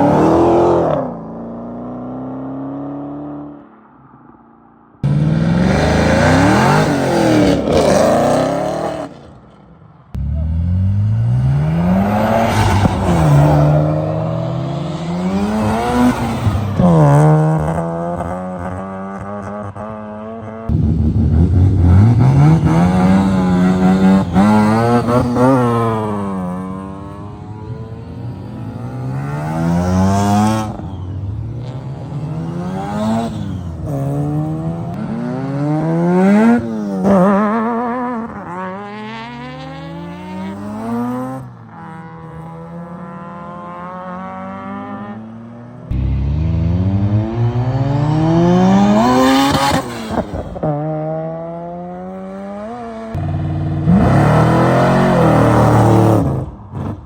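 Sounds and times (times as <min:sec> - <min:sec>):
car engine revving: 0:05.0 - 0:09.4, 0:10.1 - 0:57.0.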